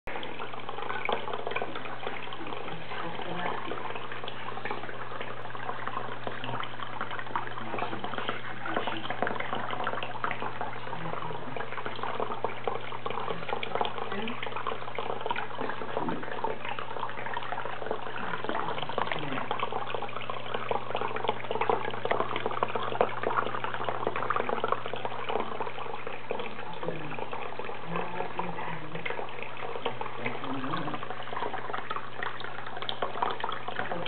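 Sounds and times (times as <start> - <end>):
fountain water splashing into basin: 0.1 - 34.0.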